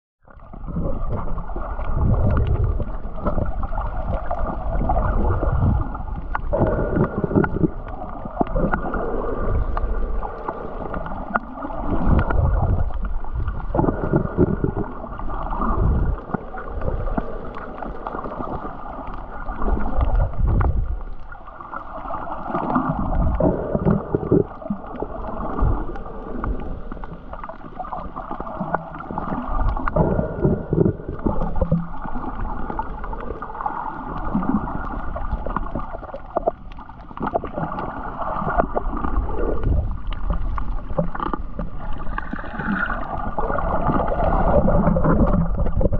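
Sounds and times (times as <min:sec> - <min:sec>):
water sloshing underwater: 0:00.2 - 0:45.9.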